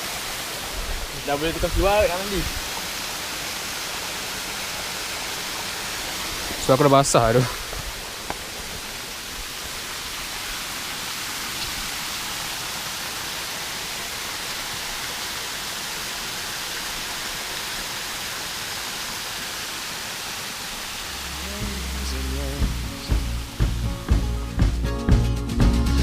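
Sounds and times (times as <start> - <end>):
rushing falling water: 0.0 - 24.8.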